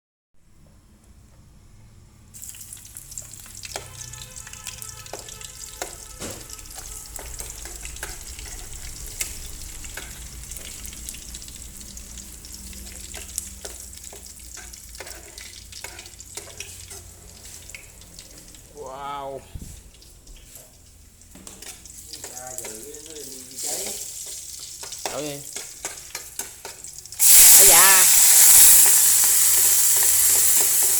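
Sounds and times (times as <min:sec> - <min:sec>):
frying in hot oil sizzle: 0:02.2 - 0:30.9
sharp crackles of oil: 0:02.4 - 0:18.8, 0:19.8 - 0:30.9.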